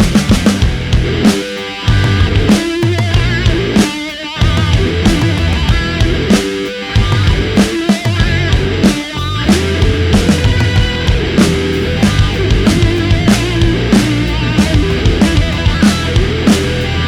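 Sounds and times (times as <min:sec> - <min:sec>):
heavy metal rock music: 0:00.0 - 0:17.0.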